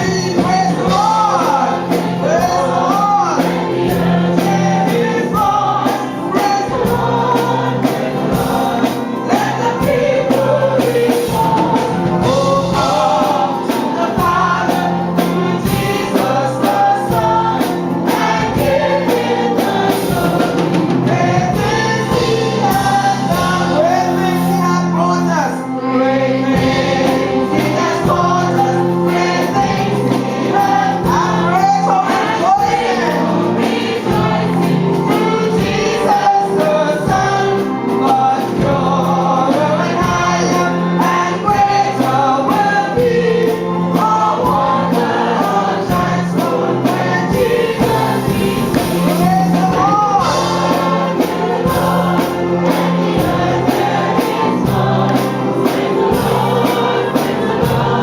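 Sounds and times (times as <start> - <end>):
group singing gospel: 0.0 - 58.0
low held accompaniment: 0.0 - 58.0.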